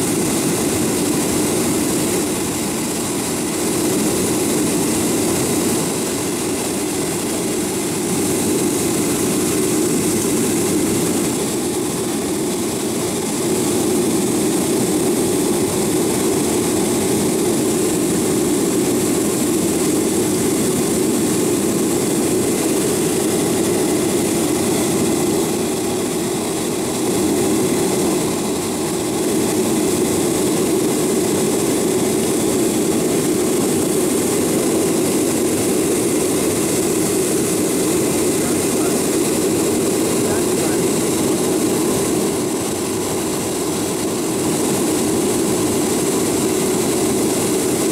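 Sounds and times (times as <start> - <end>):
jet engine roar in cabin: 0.0 - 47.9.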